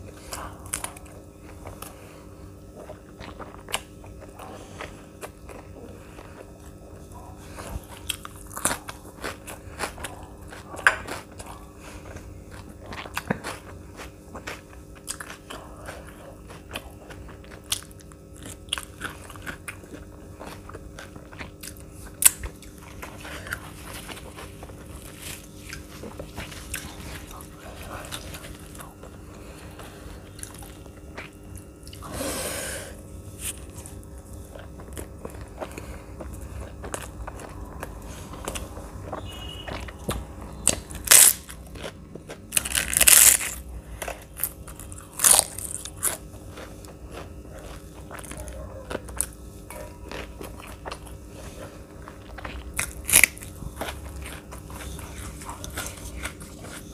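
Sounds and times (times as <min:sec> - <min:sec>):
biting and chewing: 0:00.0 - 0:32.2, 0:33.1 - 0:56.9.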